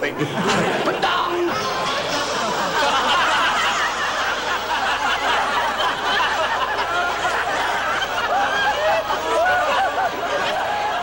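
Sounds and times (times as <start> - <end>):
crowd chatter: 0.0 - 11.0
people laughing: 0.0 - 11.0.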